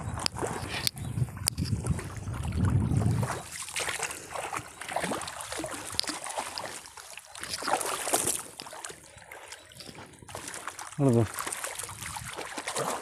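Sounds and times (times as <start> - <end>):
hands pulling net through water: 0.0 - 13.0
paddle splashing water: 0.0 - 13.0.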